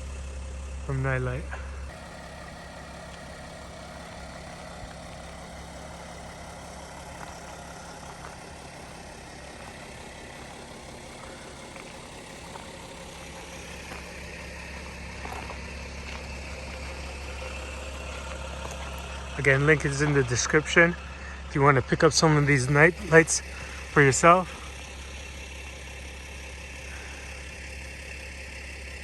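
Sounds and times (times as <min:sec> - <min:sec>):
van engine idling: 0:00.0 - 0:29.0.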